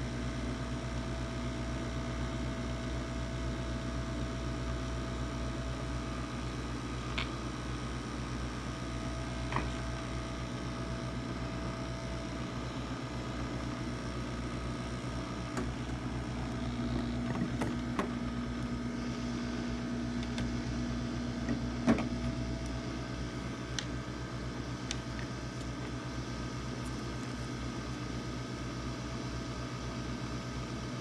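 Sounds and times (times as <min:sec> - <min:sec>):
fan motor hum: 0:00.0 - 0:31.0
low electrical hum: 0:00.0 - 0:31.0.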